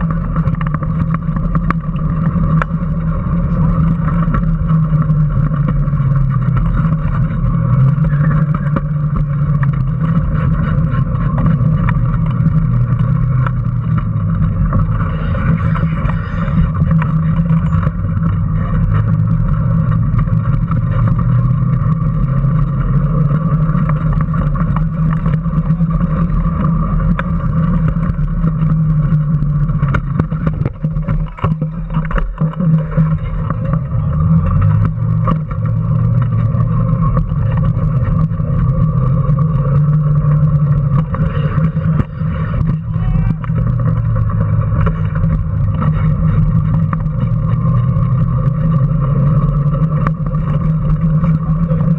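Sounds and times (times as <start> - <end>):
road rumble: 0.0 - 51.9.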